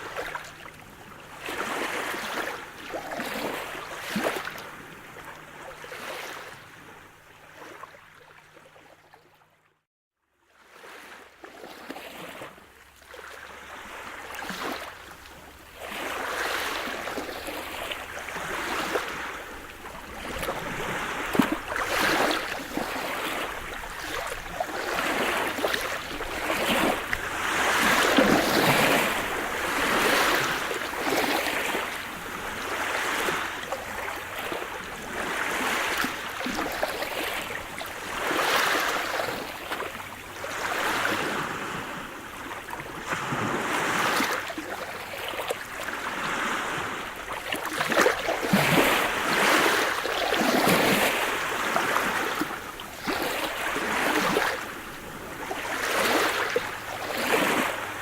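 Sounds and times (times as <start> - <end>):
waves breaking: 0.0 - 8.2, 10.7 - 58.0.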